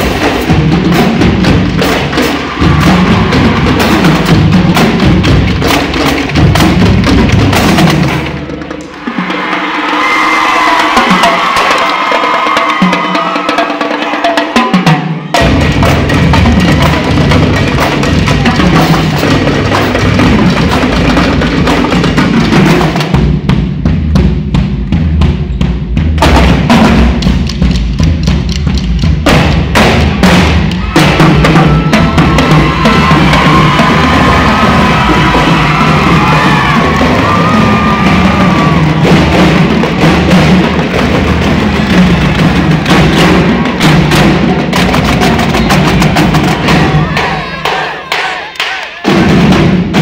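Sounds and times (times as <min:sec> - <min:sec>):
music with heavy drums and bass: 0:00.0 - 0:08.4, 0:15.4 - 0:47.4.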